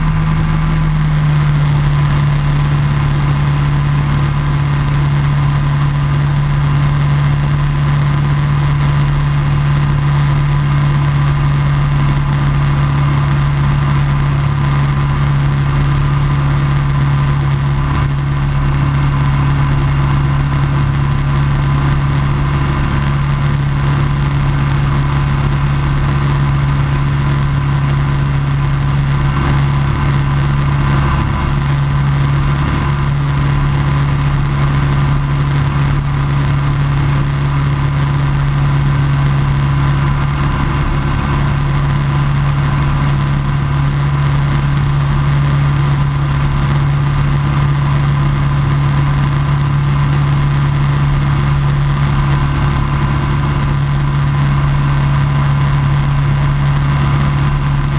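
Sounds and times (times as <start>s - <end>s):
aircraft engine drone: 0.0s - 57.9s.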